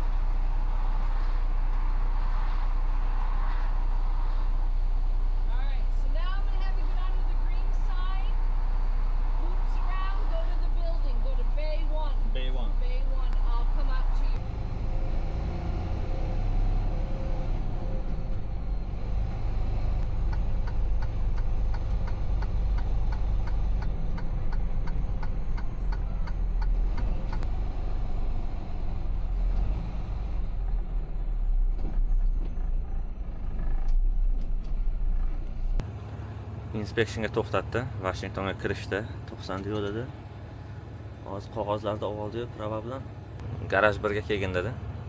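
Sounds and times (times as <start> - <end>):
truck engine low rumble: 0.0 - 45.0.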